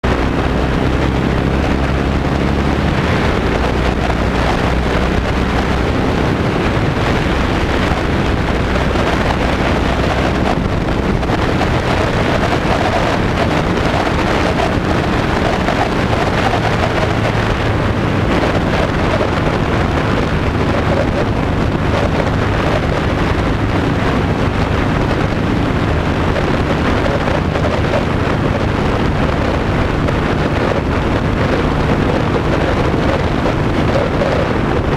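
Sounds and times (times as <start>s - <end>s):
motorcycle engine running: 0.0s - 34.9s
wind buffeting microphone: 0.0s - 34.9s.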